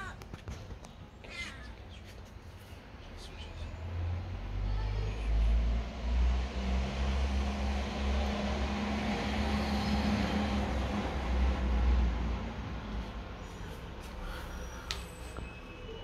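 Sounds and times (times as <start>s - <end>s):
vehicle engine humming: 3.0s - 16.0s.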